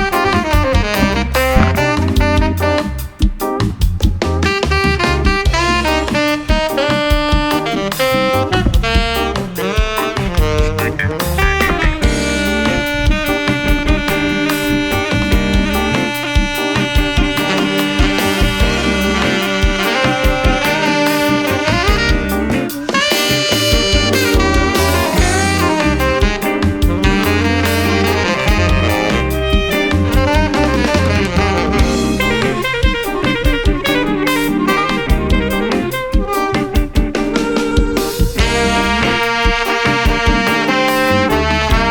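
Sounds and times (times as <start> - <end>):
jazzy saxophone and brass music: 0.0 - 41.9.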